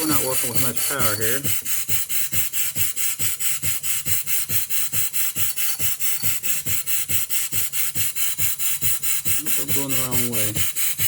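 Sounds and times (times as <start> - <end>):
steam engine chuffing: 0.0 - 11.0.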